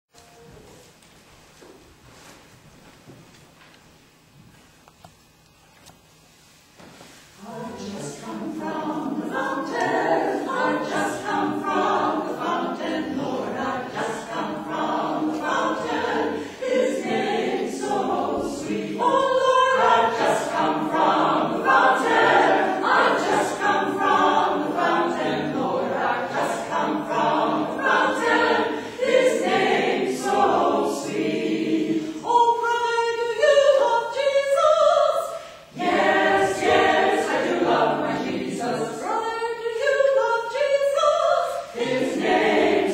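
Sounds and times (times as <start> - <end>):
choir singing: 7.4 - 42.9.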